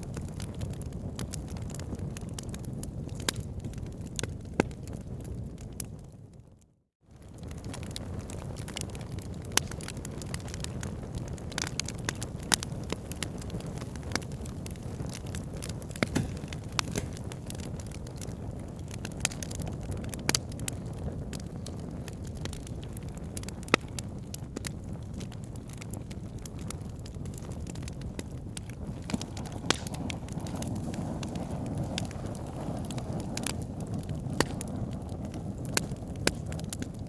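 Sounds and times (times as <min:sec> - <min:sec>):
fire crackling in fireplace: 0:00.0 - 0:06.4, 0:07.1 - 0:37.0.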